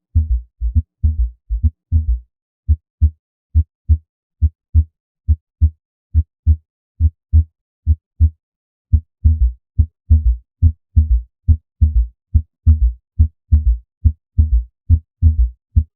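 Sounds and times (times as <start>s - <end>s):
heartbeat through stethoscope: 0.0s - 15.9s.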